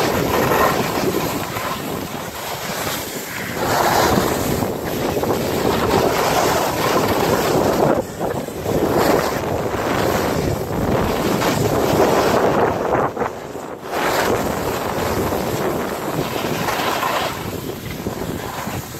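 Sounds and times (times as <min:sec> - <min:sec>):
skis scraping on packed snow: 0:00.0 - 0:18.9
wind rushing over microphone: 0:00.0 - 0:18.9.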